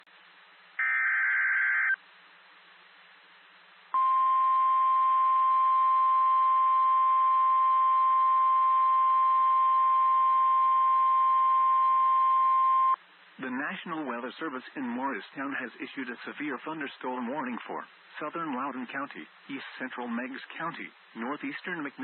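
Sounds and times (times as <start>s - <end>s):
faint radio hiss: 0.0s - 22.0s.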